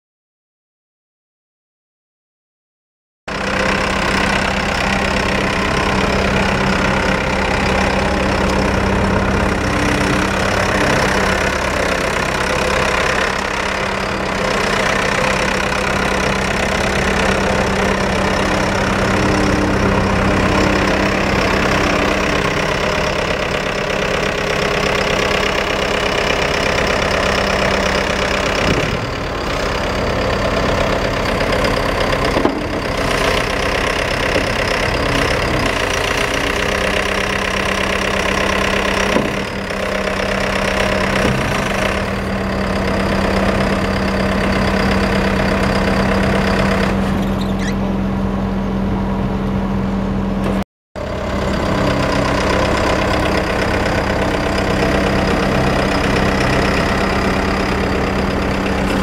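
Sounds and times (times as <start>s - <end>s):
diesel engine running: 3.3s - 59.0s.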